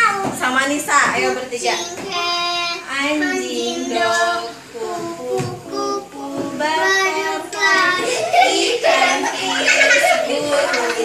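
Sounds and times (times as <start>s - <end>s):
children singing: 1.6s - 11.0s.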